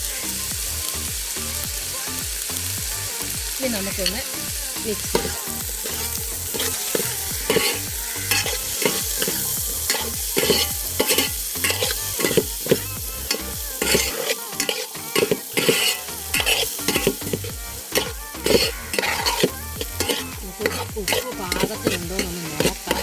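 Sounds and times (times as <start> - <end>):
oil sizzling in a pan: 0.0 - 23.0
stirring scraping a pan: 3.8 - 23.0.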